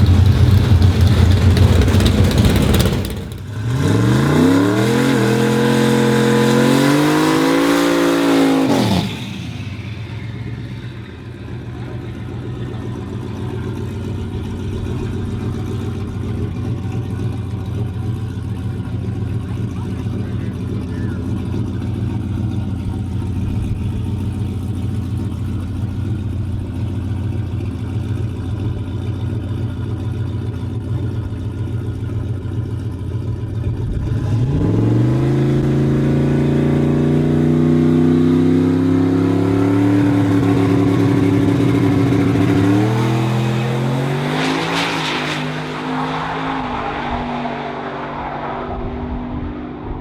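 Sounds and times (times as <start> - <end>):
drag car engine accelerating: 0.0 - 50.0.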